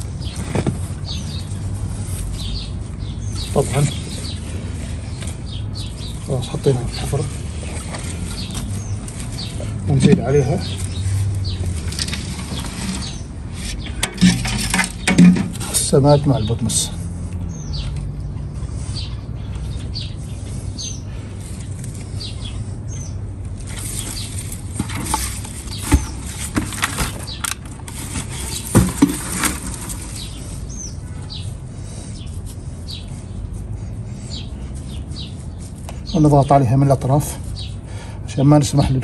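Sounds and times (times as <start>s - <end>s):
hands scooping compost rustling: 0.0s - 16.9s, 23.4s - 37.8s
bird chirping: 0.0s - 39.0s.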